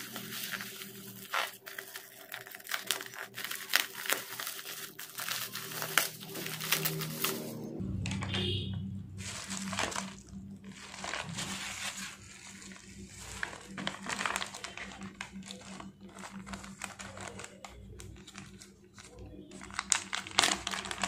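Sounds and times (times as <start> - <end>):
bubble wrap and plastic bags crinkling: 0.0 - 8.4, 9.1 - 21.0
steady low hum: 0.0 - 19.5.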